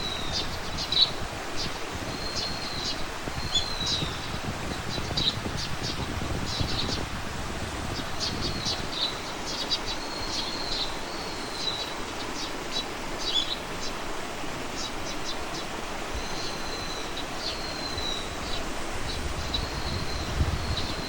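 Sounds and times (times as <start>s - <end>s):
small birds chirping: 0.0s - 21.0s
steady outdoor hiss: 0.0s - 21.0s.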